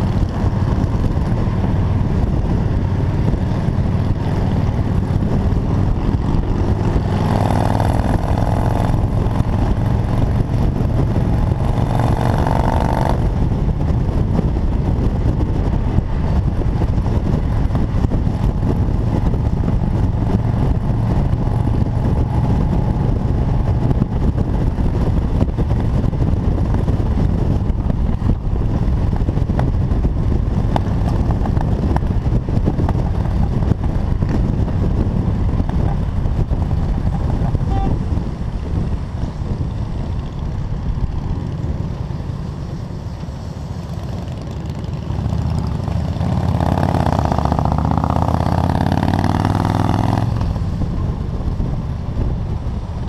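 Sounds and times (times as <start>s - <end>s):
motorcycle engine: 0.0s - 53.0s
wind rushing over microphone: 0.0s - 53.0s.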